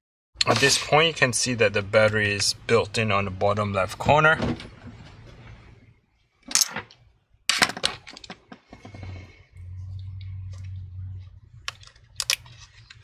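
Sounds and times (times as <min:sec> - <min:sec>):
low steady hum: 0:00.4 - 0:13.0.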